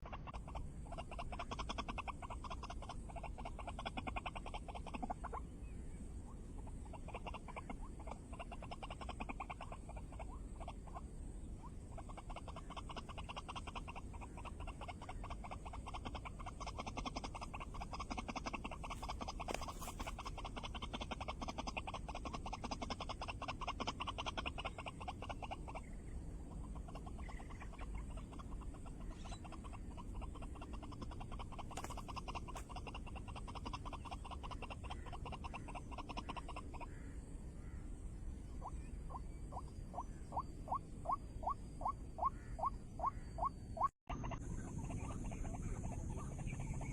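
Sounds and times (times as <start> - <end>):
waterhen croaking calls: 0.0 - 46.9.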